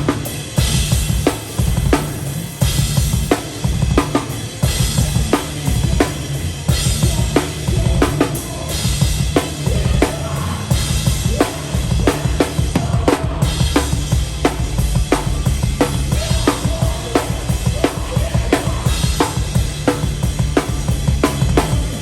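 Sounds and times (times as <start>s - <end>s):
low rumble of band: 0.0s - 22.0s.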